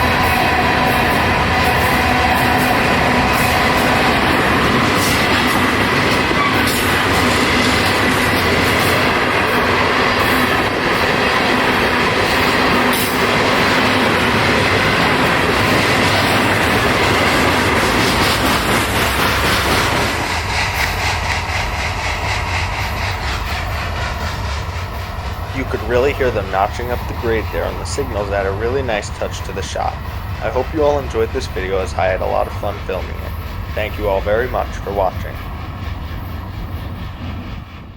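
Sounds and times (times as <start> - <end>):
diesel locomotive engine drone: 0.0 - 37.9
train wheels clicking over rail joints: 0.0 - 37.9.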